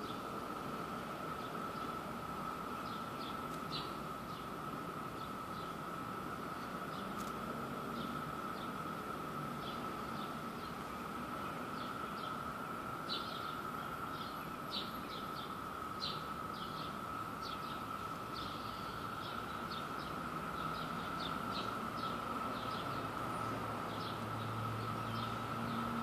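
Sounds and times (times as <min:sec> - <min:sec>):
distant cicadas droning: 0:00.0 - 0:26.0.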